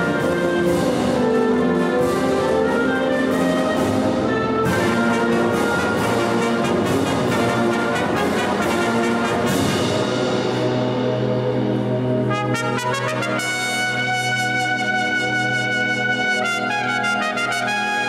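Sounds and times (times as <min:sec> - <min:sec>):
concert band playing: 0:00.0 - 0:18.0.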